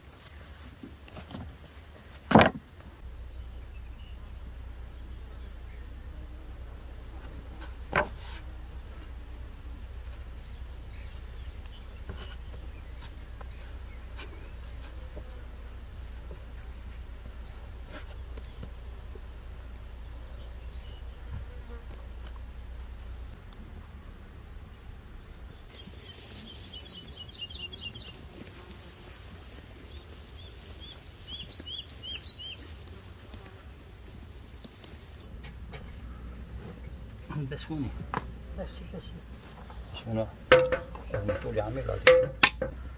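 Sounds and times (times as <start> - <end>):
insects trilling: 0.0 - 42.9.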